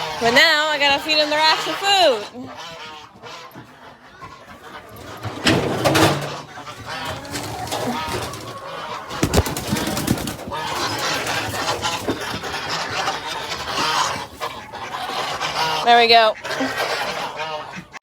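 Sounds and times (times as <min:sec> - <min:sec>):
poultry clucking: 0:00.0 - 0:18.0.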